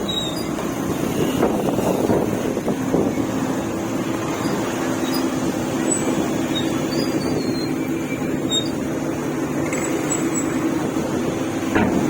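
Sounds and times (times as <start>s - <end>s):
ferry engine drone: 0.0s - 12.0s
water noise: 0.0s - 12.0s
wind: 0.0s - 12.0s.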